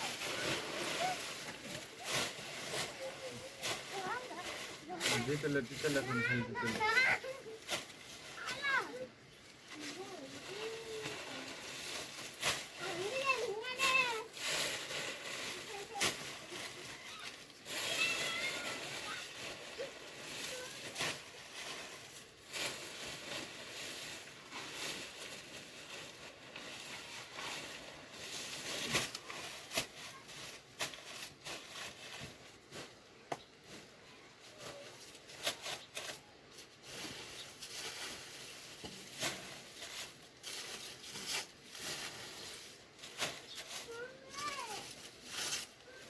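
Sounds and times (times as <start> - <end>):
rustling and crinkling: 0.0 - 46.0.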